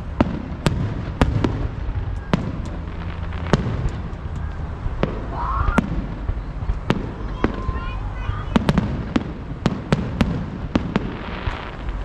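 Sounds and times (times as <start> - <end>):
low rumble of firework bursts: 0.0 - 12.0.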